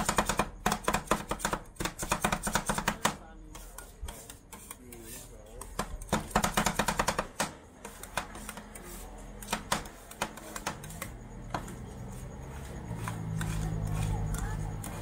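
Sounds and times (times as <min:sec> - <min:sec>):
metal spatulas chopping and scraping: 0:00.0 - 0:15.0.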